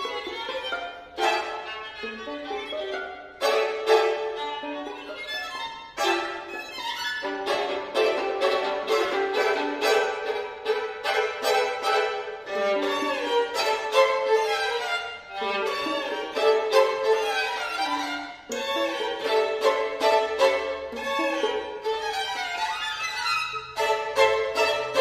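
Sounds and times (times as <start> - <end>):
two violins playing: 0.0 - 25.0.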